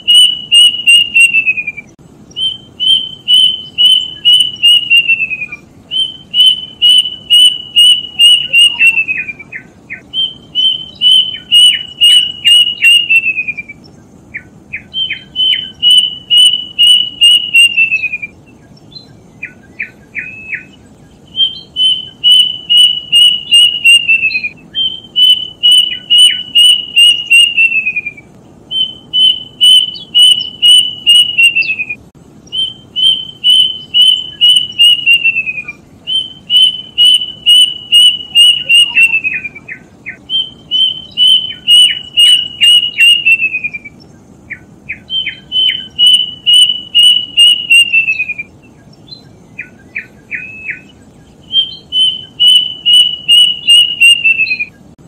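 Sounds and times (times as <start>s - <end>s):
cuckoo whistling song: 0.0s - 55.0s.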